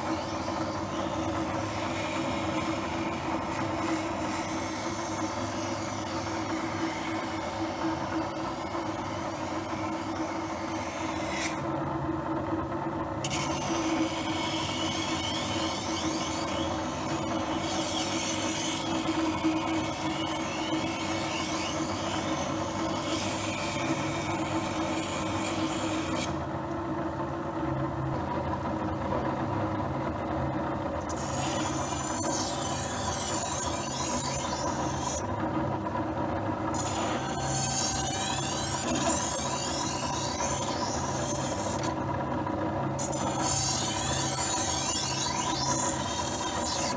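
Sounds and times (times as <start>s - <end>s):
knife blade grinding on wheel: 0.0s - 11.7s, 13.2s - 26.4s, 31.0s - 35.4s, 36.7s - 42.0s, 43.0s - 46.9s
knife sharpener motor hum: 0.0s - 12.1s, 13.2s - 26.9s, 30.3s - 46.9s.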